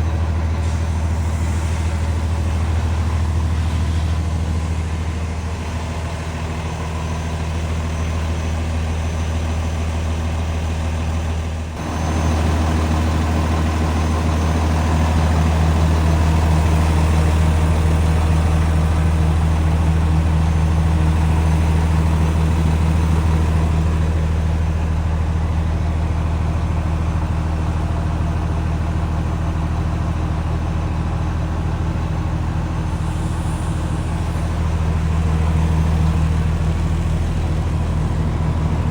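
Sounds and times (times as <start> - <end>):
diesel truck idling: 0.0 - 38.9.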